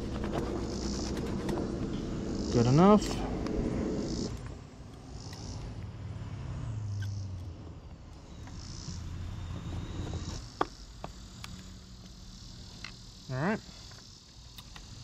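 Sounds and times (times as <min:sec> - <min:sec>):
low steady distant rumble: 0:00.0 - 0:13.4
faint insects chirping: 0:00.0 - 0:15.0.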